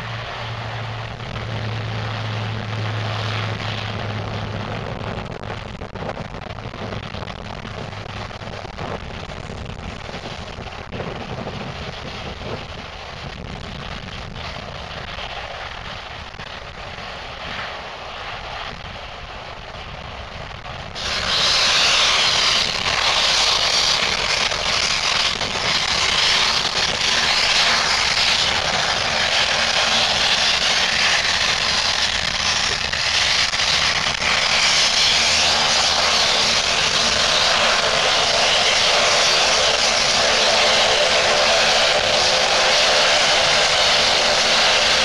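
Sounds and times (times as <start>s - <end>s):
high-pitched turboprop engine noise: 0.0s - 45.0s
low propeller drone: 0.0s - 45.0s.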